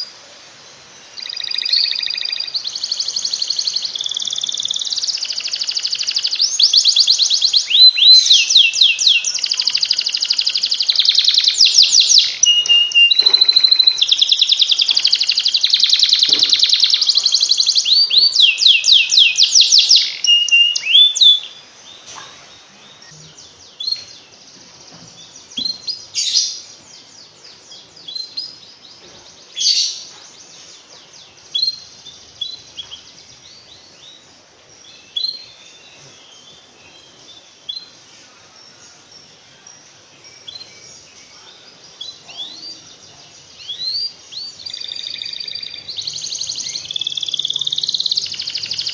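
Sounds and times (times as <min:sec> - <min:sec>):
canary singing trills: 0:00.0 - 0:48.9
canary chirps: 0:00.7 - 0:48.9.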